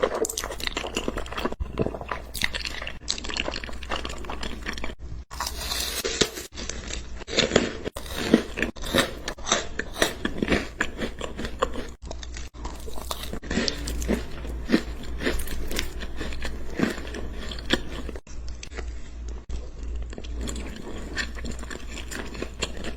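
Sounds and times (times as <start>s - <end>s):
crunchy biting and chewing: 0.0s - 22.9s.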